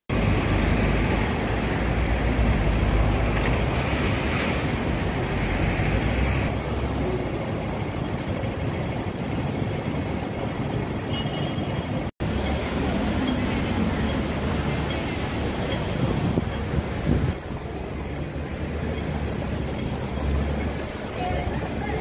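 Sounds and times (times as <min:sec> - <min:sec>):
busy street traffic: 0:00.0 - 0:22.0.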